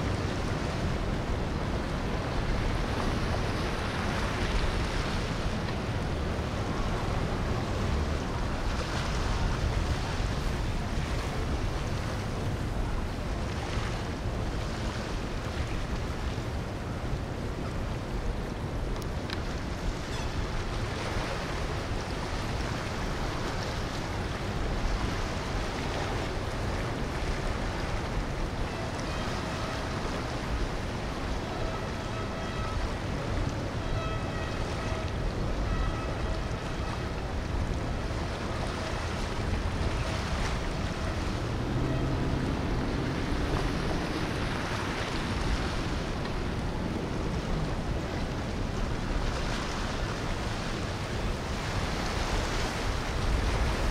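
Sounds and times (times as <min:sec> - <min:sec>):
motorboat engines: 0:00.0 - 0:53.9
wind on microphone: 0:00.0 - 0:53.9.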